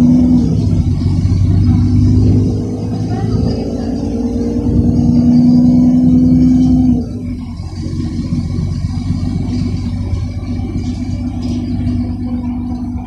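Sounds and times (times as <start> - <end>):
bus engine whine: 0.0 - 13.0
engine and road rumble: 0.0 - 13.0.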